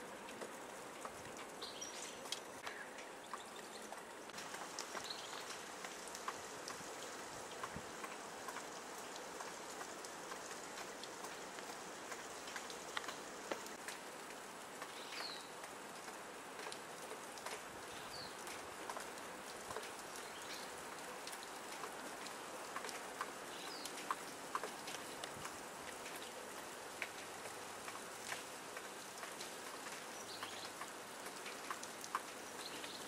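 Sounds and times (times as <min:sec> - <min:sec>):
hiss of falling wet snow: 0:00.0 - 0:33.0
small ticks and patters: 0:00.0 - 0:33.0.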